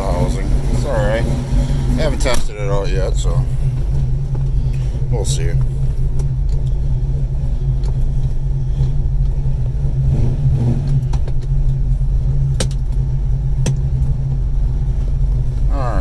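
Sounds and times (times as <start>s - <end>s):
car engine idling rumble: 0.0s - 16.0s.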